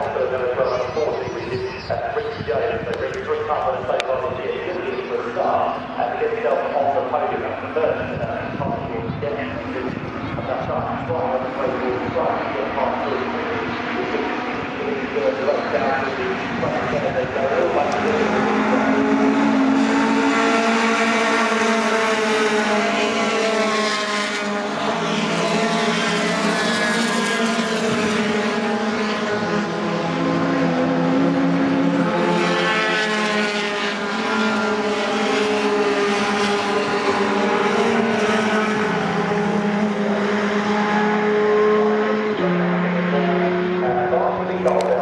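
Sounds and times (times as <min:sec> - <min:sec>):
racing truck engines passing: 0:00.0 - 0:45.0.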